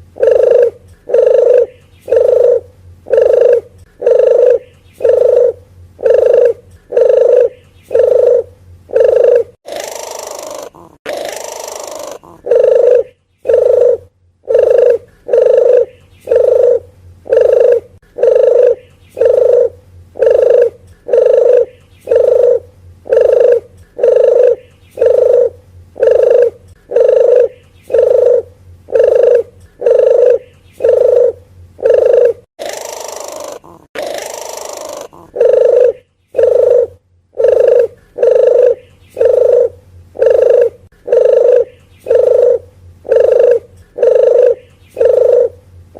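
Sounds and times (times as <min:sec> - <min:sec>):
dove cooing: 0:00.0 - 0:45.6.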